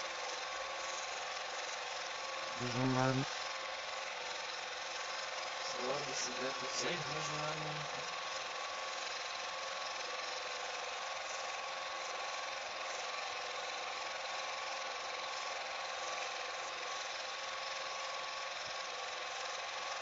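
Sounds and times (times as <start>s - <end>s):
film projector running: 0.0s - 20.0s.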